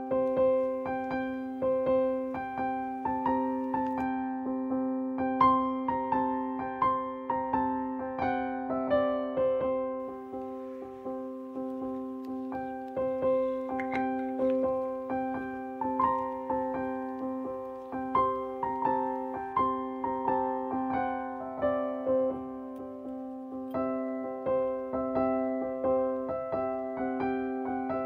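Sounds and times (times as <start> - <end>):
gentle piano piece: 0.0 - 28.0.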